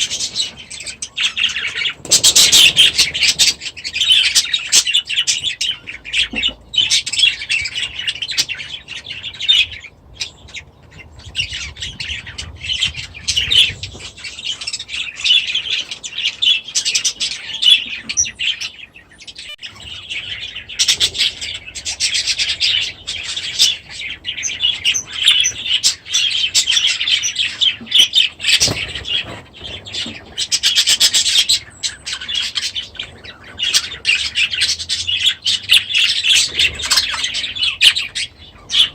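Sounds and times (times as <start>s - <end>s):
caged birds chattering and chirping: 0.0s - 38.9s.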